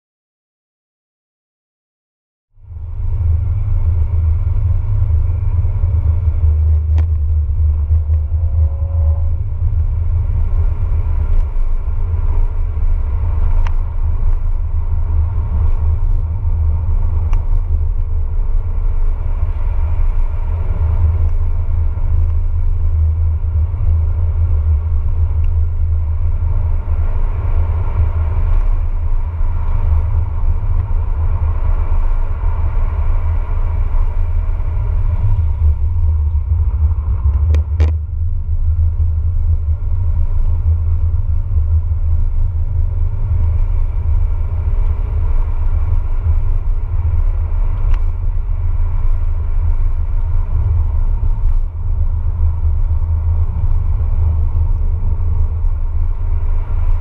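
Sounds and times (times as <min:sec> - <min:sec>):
car engine and tyres rumbling: 0:02.5 - 0:57.0.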